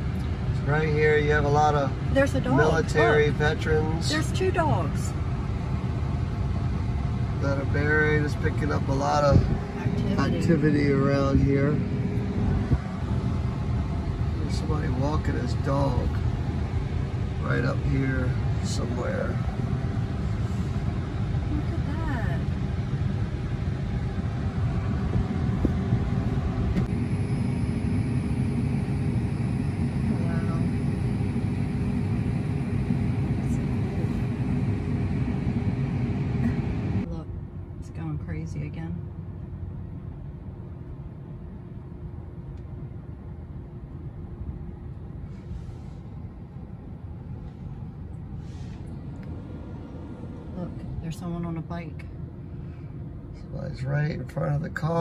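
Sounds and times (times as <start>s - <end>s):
faint hum: 0.0s - 55.0s
road and tyre rumble: 0.0s - 55.0s.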